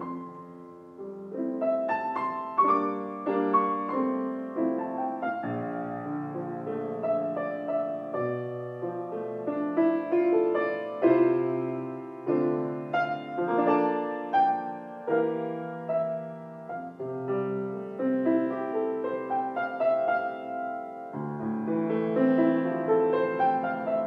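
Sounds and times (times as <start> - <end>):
slow gentle piano: 0.0 - 24.0.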